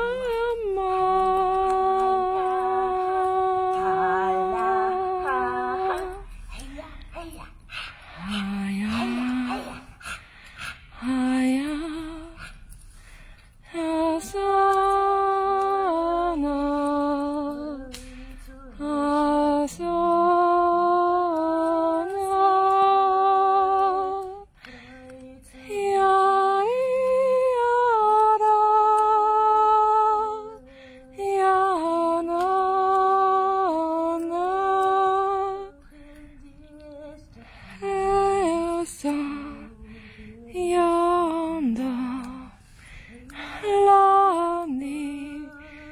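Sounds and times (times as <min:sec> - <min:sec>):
woman humming: 0:00.0 - 0:10.1, 0:13.6 - 0:45.9.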